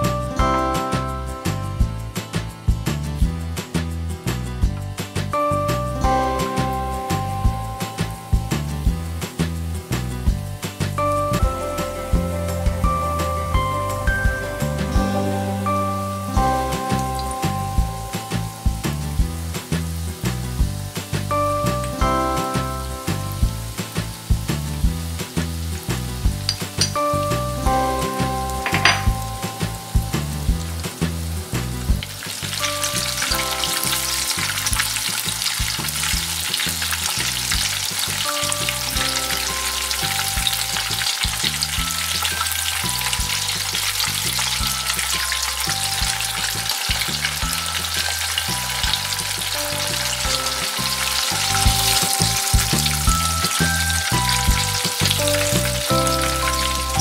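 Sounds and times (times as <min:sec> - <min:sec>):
food deep-frying in oil: 0:00.0 - 0:57.0.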